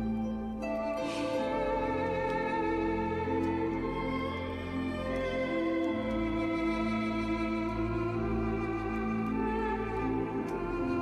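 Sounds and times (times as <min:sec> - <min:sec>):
soft held-note background score: 0:00.0 - 0:11.0.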